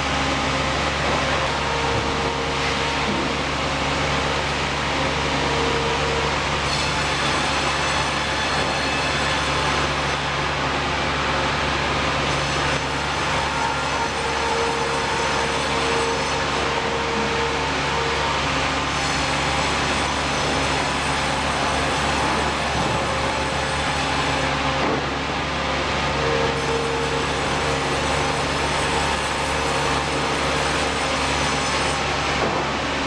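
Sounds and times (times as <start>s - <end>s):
machinery hum and rumble: 0.0s - 33.0s.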